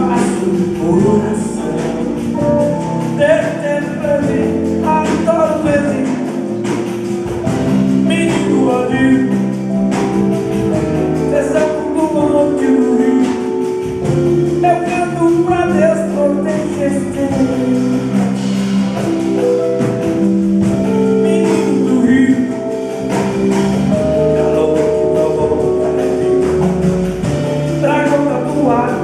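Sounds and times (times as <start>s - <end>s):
cajon: 0.0s - 29.0s
electric bass: 0.0s - 29.0s
keyboard: 0.0s - 29.0s.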